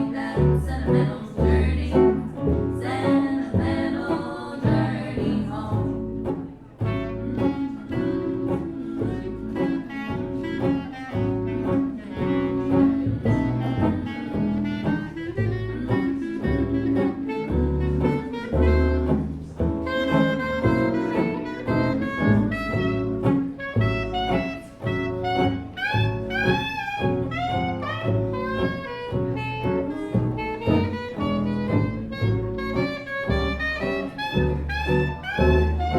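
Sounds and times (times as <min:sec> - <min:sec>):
bass: 0:00.0 - 0:35.9
jazz band playing live: 0:00.0 - 0:35.9.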